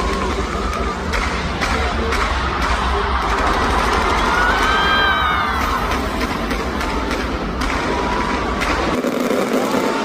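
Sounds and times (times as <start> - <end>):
loud crowd noise: 0.0 - 10.0
music: 0.0 - 10.0.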